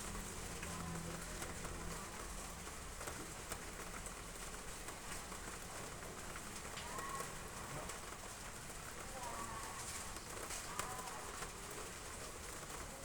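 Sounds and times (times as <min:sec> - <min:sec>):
heavy rain on roof tiles: 0:00.0 - 0:13.0.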